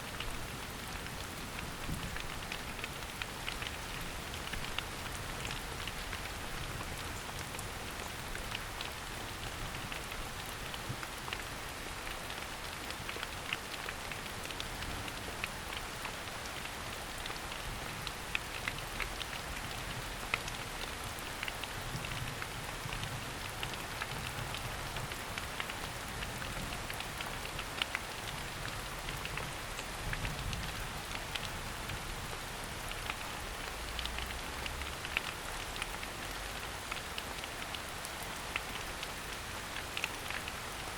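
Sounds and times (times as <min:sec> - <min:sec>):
rain on foliage: 0:00.0 - 0:40.9
raindrops pattering: 0:00.0 - 0:40.9.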